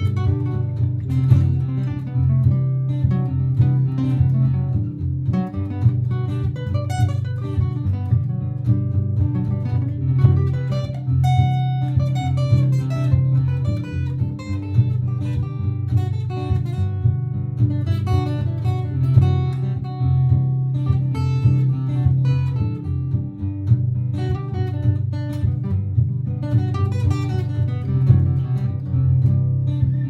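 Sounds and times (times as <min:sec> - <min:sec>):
picked guitar melody: 0:00.0 - 0:30.0
strummed acoustic guitar chords: 0:00.0 - 0:30.0.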